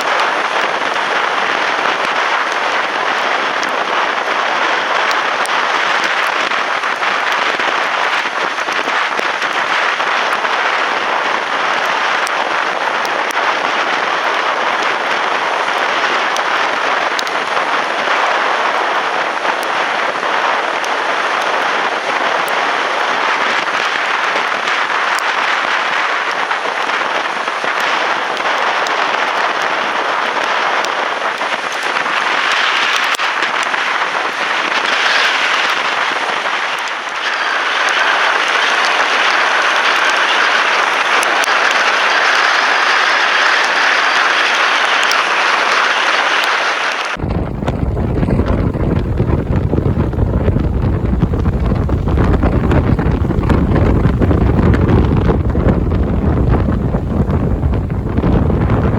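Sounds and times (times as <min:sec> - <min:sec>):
strong wind blowing: 0:00.0 - 0:58.9.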